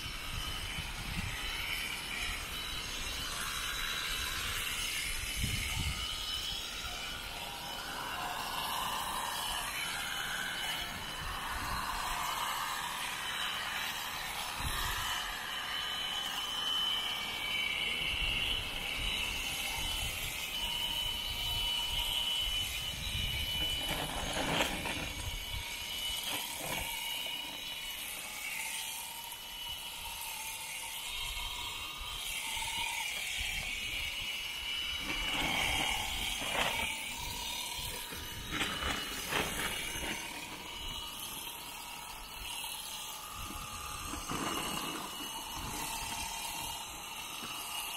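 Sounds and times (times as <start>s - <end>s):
electric shears whining: 0.0s - 47.9s.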